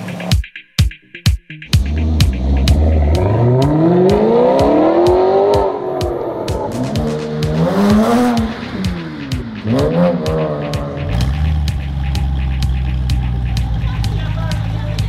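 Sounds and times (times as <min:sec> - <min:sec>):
music with a steady beat: 0:00.0 - 0:15.0
supercar exhaust revving: 0:01.7 - 0:15.0.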